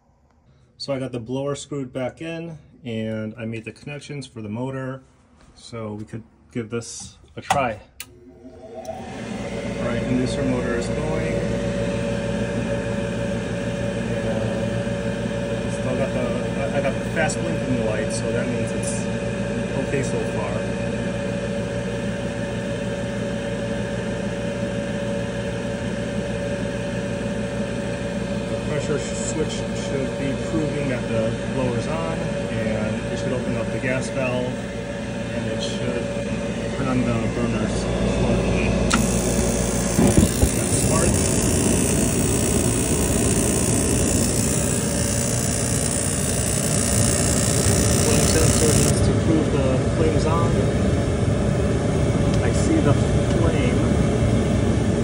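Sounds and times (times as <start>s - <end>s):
furnace inducer motor humming and whining: 5.6s - 55.0s.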